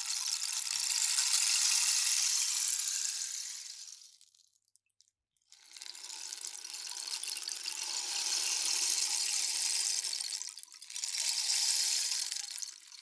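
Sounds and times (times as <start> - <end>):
rainstick pebbles trickling: 0.0 - 4.5, 5.5 - 13.0.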